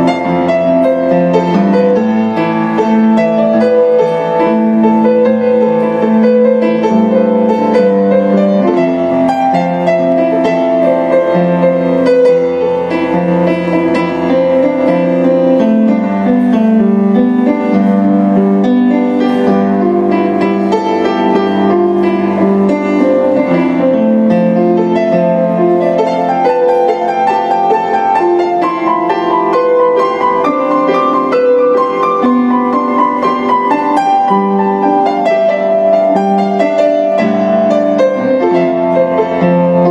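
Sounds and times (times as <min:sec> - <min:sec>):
grand piano playing: 0:00.0 - 0:39.9.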